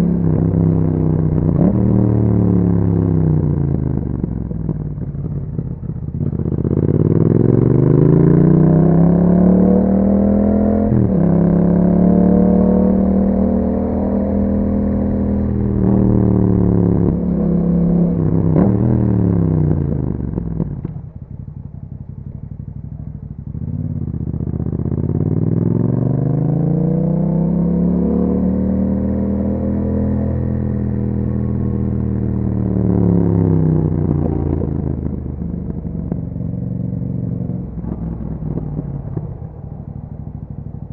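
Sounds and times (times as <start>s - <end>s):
motorcycle accelerating hard: 0.0s - 21.6s, 22.2s - 40.9s.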